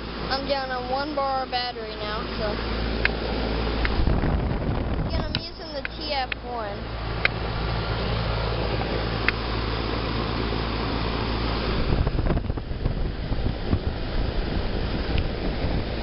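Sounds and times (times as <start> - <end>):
air conditioner unit humming: 0.0 - 16.0
wind buffeting microphone: 0.0 - 16.0.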